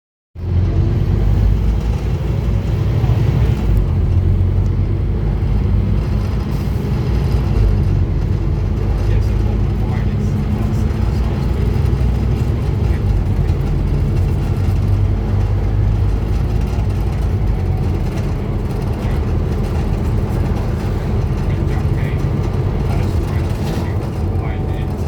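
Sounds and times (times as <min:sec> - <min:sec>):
diesel bus engine droning: 0:00.4 - 0:25.0.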